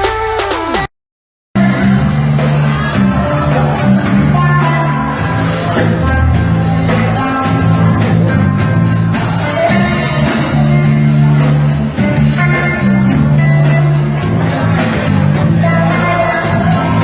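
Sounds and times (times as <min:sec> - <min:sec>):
live band jamming: 0:00.0 - 0:00.9, 0:01.6 - 0:17.0
low bass notes: 0:01.6 - 0:17.0.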